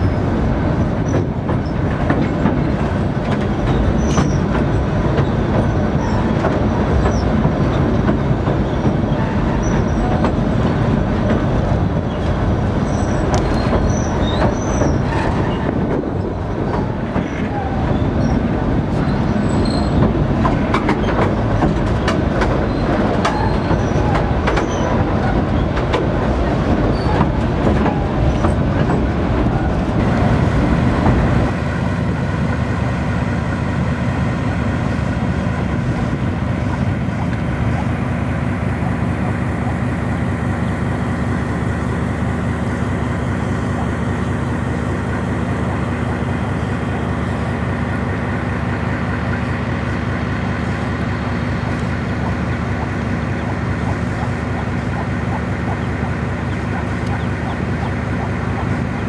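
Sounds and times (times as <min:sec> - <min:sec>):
rail clicks and clatter: 0:00.0 - 0:59.0
train wheels rumbling on viaduct: 0:00.0 - 0:59.0.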